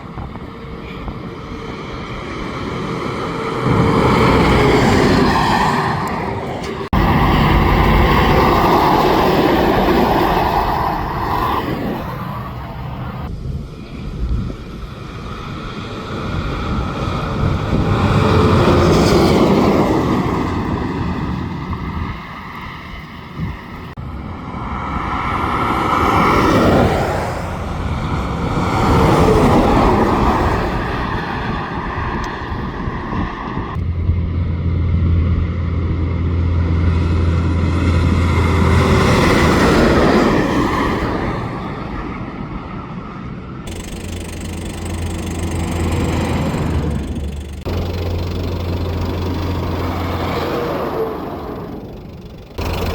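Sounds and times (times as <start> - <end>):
low engine hum: 0.0 - 31.5, 33.6 - 40.6, 43.3 - 52.9
trucks driving past: 0.0 - 52.9.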